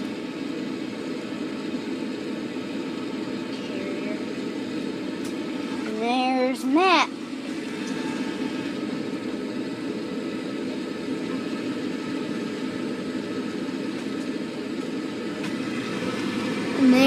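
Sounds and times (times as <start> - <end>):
gas furnace humming: 0.0 - 17.0.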